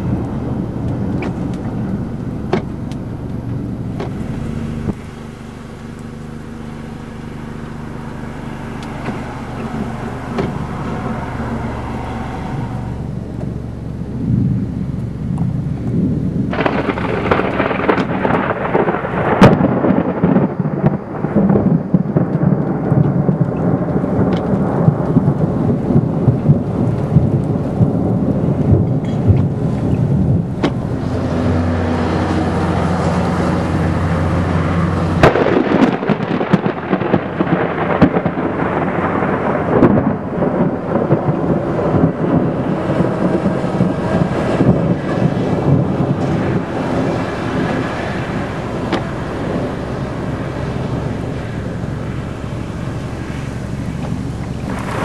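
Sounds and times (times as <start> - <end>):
heavy rain: 0.0 - 55.0
low rumble: 0.0 - 55.0
strong gusting wind: 0.0 - 55.0.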